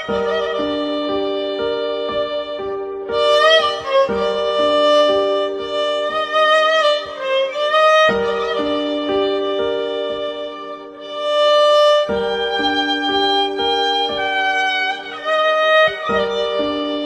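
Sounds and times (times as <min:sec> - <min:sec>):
violin-like lead melody: 0:00.0 - 0:17.0.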